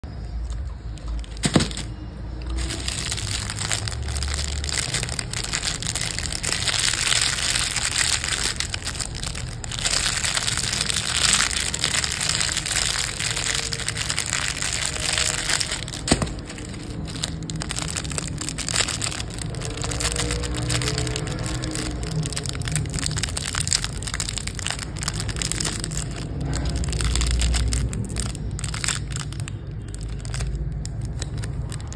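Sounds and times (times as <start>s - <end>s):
plastic wrappers crinkling: 0.0s - 31.9s.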